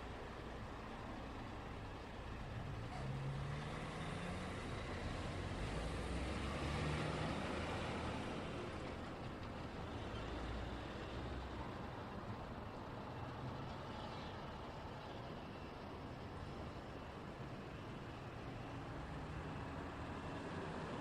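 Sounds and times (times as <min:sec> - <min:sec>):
heavy truck engine: 0:00.0 - 0:21.0
vehicles passing: 0:00.0 - 0:21.0.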